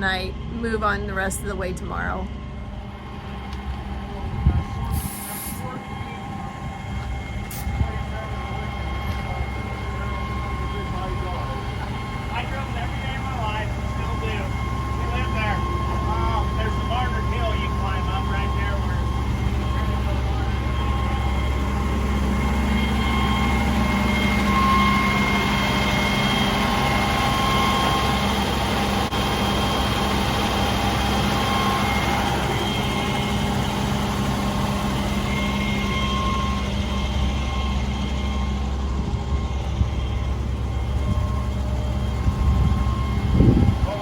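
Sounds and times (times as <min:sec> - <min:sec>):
vehicle engine idling: 0:00.0 - 0:44.0
faint high whine: 0:00.1 - 0:44.0.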